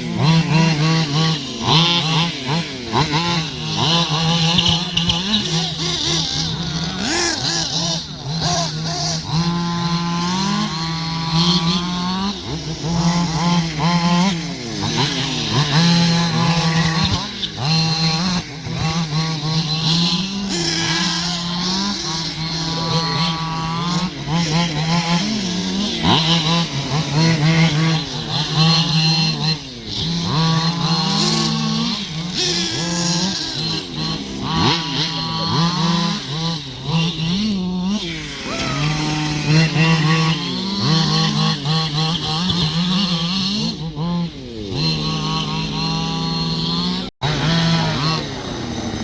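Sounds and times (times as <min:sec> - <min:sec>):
radio-controlled car motors whining: 0:00.0 - 0:49.0.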